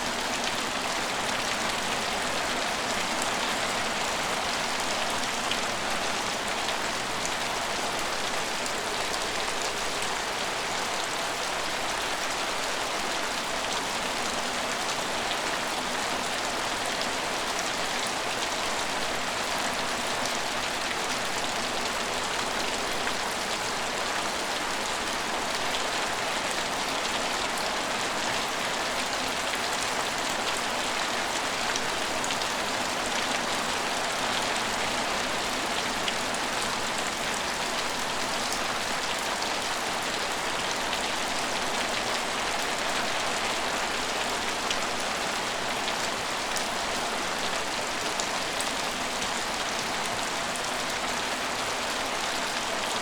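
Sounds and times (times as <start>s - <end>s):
rain on hard surfaces: 0.0s - 53.0s.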